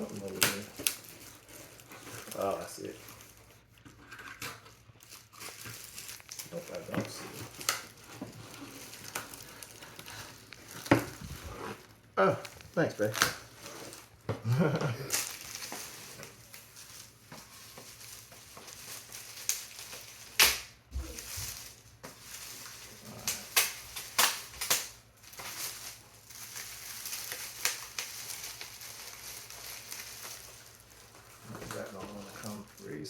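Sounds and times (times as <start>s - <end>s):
packaging snaps and crackles: 0.0s - 3.4s, 4.2s - 11.3s, 12.4s - 13.6s, 15.1s - 33.0s
packaging rustle: 0.0s - 33.0s.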